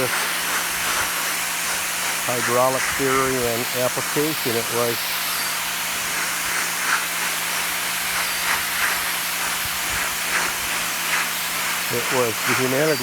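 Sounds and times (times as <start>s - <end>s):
pressure washer motor hum: 0.0s - 13.0s
water jet hissing on concrete: 0.0s - 13.0s.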